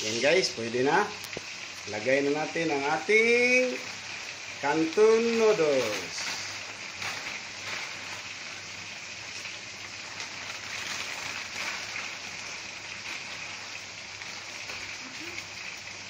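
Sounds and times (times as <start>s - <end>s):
broth boiling and bubbling: 0.0s - 16.0s.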